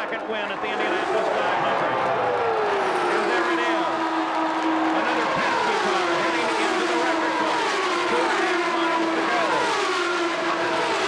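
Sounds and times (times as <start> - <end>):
race cars screaming past: 0.6 - 11.0
high engine drone: 0.9 - 11.0.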